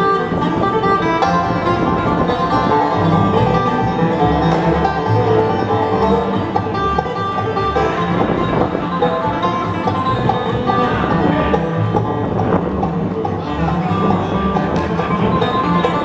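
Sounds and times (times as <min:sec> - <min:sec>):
banjo: 0:00.0 - 0:16.0
bluegrass band playing: 0:00.0 - 0:16.0.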